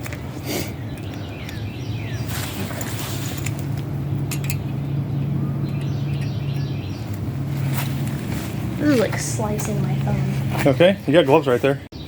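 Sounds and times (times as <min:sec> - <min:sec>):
engine parts clicking: 0:00.0 - 0:10.8
low hum: 0:01.0 - 0:10.8.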